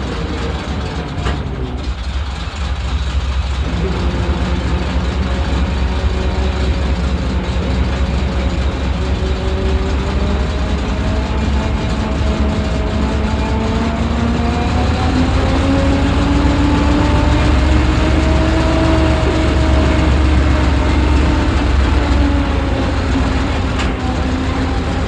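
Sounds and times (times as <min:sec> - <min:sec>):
tank engine idling: 0:00.0 - 0:25.0.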